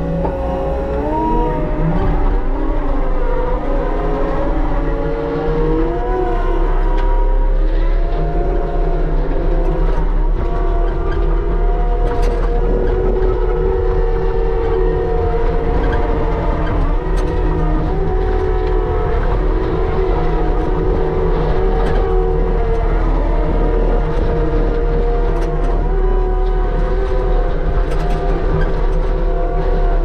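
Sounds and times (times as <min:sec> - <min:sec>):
skid steer engine droning: 0:00.0 - 0:30.0.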